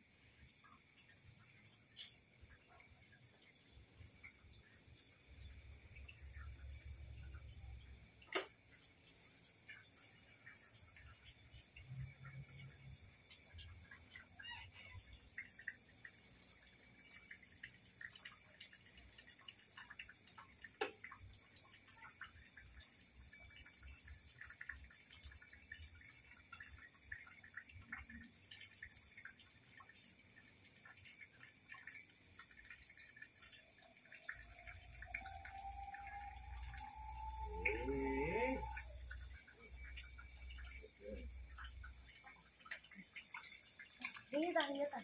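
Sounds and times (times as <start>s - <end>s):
water dripping and splashing on stone: 0.1s - 45.0s.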